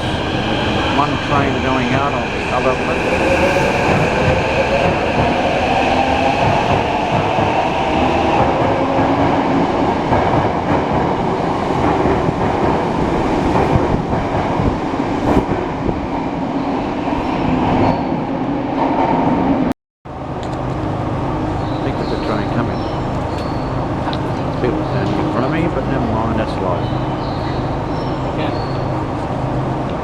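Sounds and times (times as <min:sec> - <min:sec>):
wheels rumbling on rails: 0:00.0 - 0:18.2, 0:19.3 - 0:30.0.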